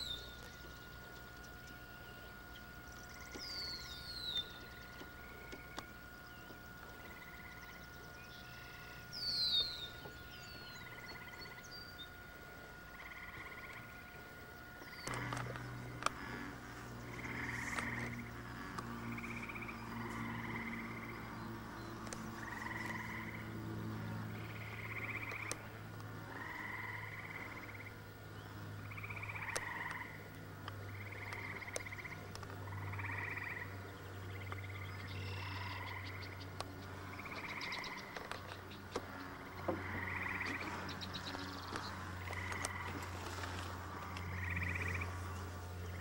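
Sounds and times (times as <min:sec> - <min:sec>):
frogs trilling: 0:00.0 - 0:46.0
steady low hum: 0:00.0 - 0:46.0.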